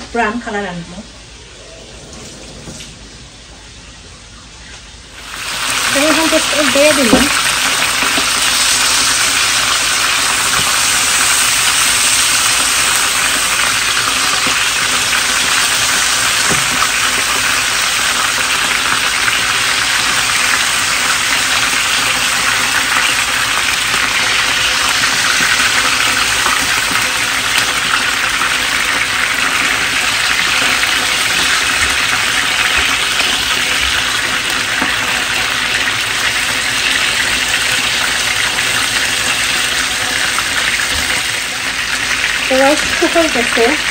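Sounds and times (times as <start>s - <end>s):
chicken sizzling in hot oil: 0.1s - 43.9s.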